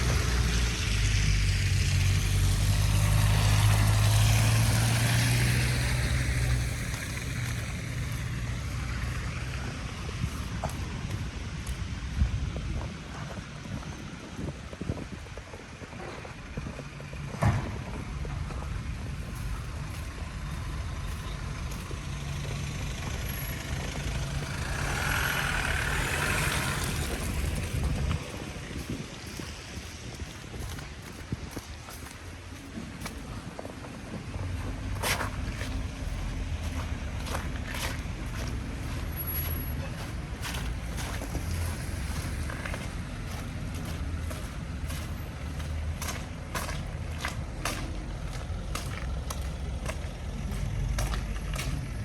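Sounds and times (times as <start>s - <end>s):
vehicle passing on street: 0.0s - 52.0s.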